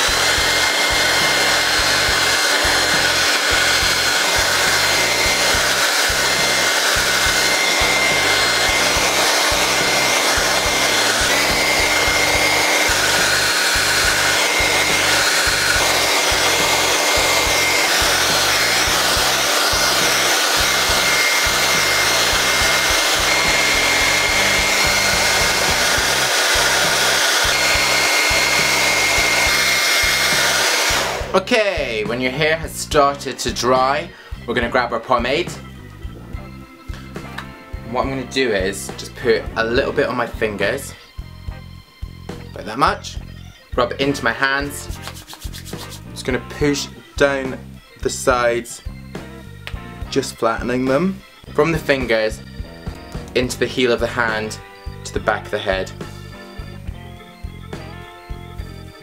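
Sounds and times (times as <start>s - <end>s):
hairdryer blowing with whine: 0.0s - 41.2s, 50.2s - 59.0s.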